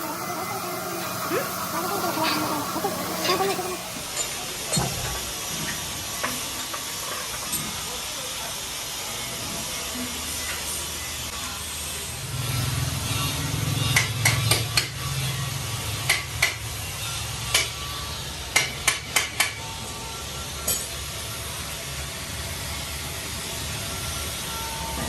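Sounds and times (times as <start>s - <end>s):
low workshop hum: 0.0s - 25.0s.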